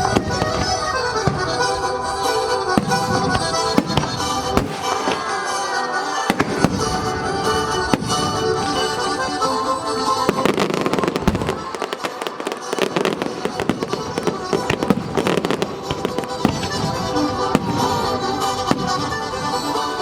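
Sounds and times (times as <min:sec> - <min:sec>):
fireworks bursting and crackling: 0:00.0 - 0:20.0
show music: 0:00.0 - 0:20.0.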